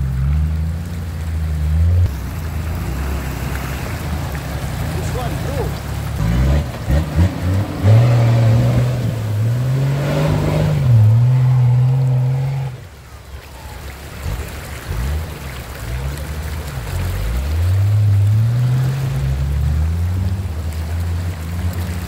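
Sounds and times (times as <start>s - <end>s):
engine revving: 0.0s - 12.8s, 16.1s - 22.0s.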